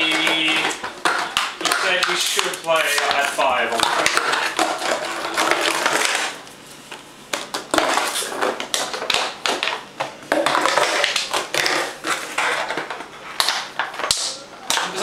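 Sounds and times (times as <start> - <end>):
plastic bottle crackling and tapping: 0.0 - 6.4, 7.3 - 15.0.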